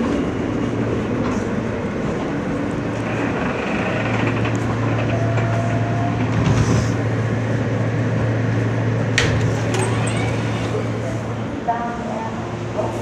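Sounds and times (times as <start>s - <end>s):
subway car rolling rumble: 0.0s - 13.0s.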